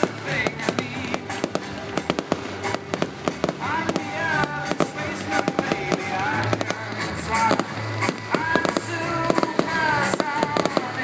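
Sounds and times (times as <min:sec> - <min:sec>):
fireworks bursting and crackling: 0:00.0 - 0:11.0
music on a sound system: 0:00.0 - 0:11.0.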